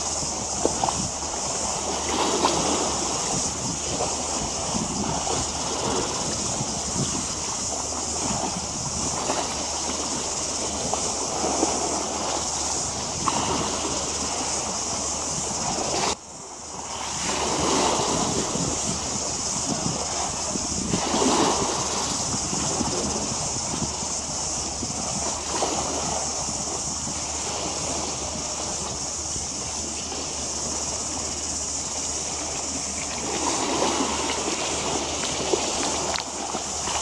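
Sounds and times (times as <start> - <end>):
small waves lapping: 0.0 - 37.0
steady high hiss: 0.0 - 37.0
wind on microphone: 0.0 - 37.0.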